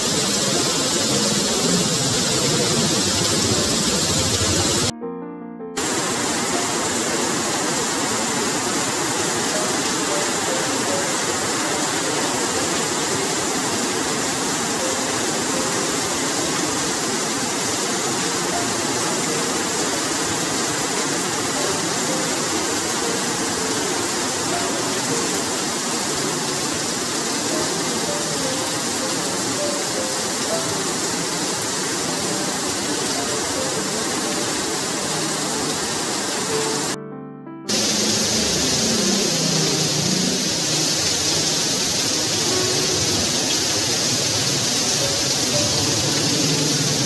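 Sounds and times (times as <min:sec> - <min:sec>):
heavy rain on concrete: 0:00.0 - 0:04.9, 0:05.8 - 0:37.0, 0:37.7 - 0:47.0.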